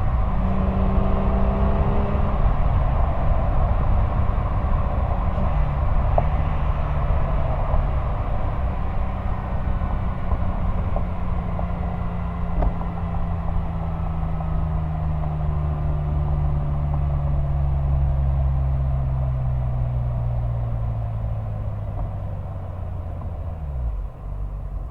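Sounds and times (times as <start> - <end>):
car exhaust note: 0.0 - 24.9
road and wind noise: 0.0 - 24.9.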